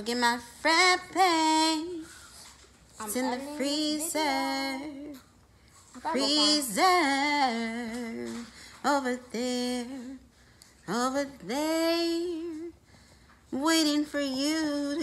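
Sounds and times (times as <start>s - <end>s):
woman singing: 0.0s - 2.2s, 3.0s - 5.3s, 6.0s - 12.8s, 13.5s - 15.0s.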